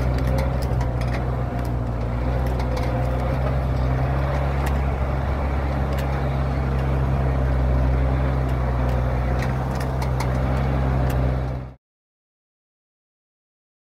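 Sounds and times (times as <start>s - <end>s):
truck engine running: 0.0s - 11.8s
vehicle knocks and rattles: 0.0s - 11.8s.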